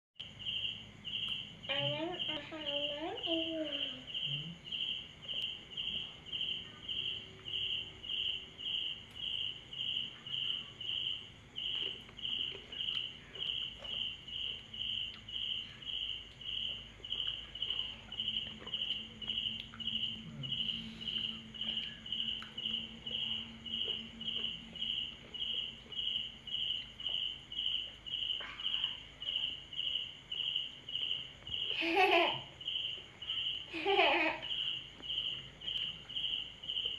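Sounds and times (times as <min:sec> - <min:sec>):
insect chirping: 0:00.2 - 0:36.9.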